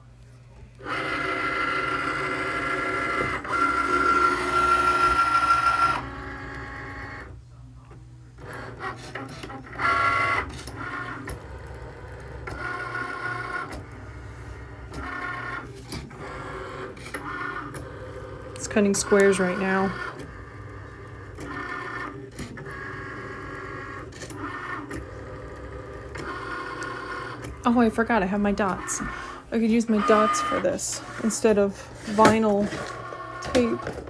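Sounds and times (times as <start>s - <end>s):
carriage and rollers whirring: 0.8s - 7.4s, 8.4s - 34.0s
cutting machine motor whine: 0.8s - 7.4s, 8.3s - 34.0s.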